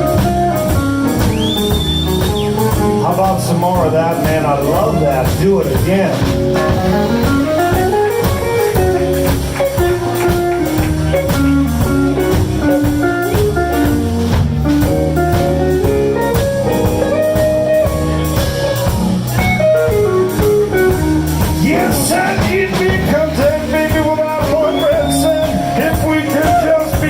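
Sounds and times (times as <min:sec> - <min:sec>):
lead guitar melody: 0:00.0 - 0:27.0
live blues band playing: 0:00.0 - 0:27.0.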